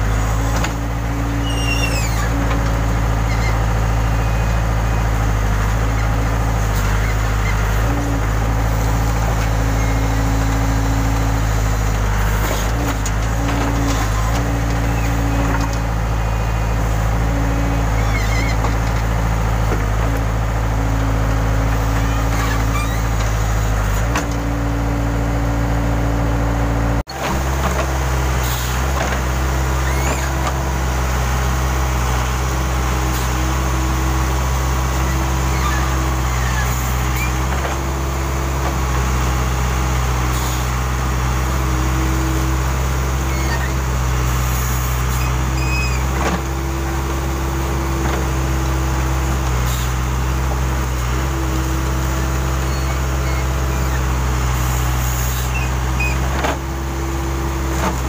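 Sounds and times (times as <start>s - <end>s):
backhoe diesel engine running: 0.0s - 58.0s
hydraulic arm hum: 0.0s - 58.0s.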